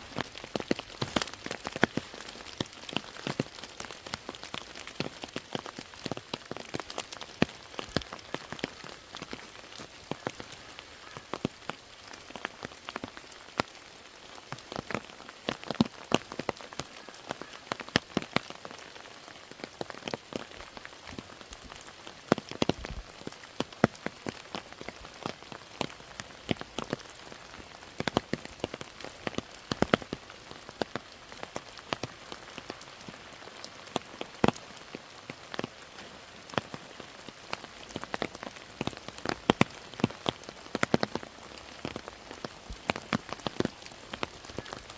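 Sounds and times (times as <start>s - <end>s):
raindrops tapping close by: 0.0s - 44.9s
steady rain: 0.0s - 44.9s.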